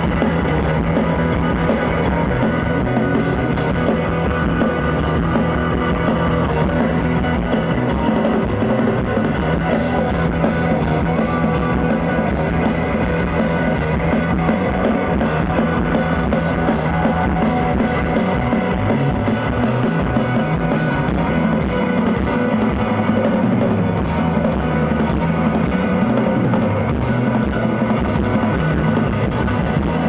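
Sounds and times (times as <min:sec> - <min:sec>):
drum kit: 0:00.0 - 0:30.0
electric guitars: 0:00.0 - 0:30.0.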